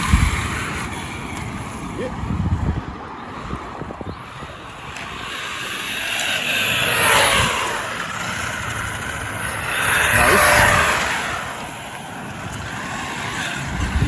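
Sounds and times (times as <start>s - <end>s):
rc car electric motor whining: 0.0s - 1.8s, 4.2s - 14.0s.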